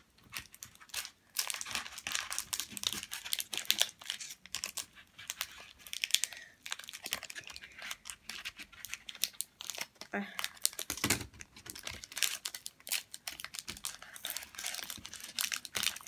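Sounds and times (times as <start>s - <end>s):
foil wrapper crinkling and tearing: 0.2s - 16.0s.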